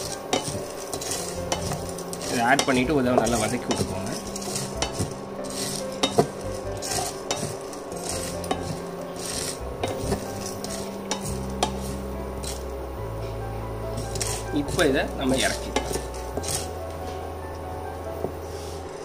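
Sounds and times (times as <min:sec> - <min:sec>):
spatula scraping frying pan: 0:00.0 - 0:12.8, 0:13.9 - 0:16.8, 0:18.3 - 0:19.0
food sizzling: 0:00.0 - 0:19.0
steady hum: 0:00.0 - 0:19.0.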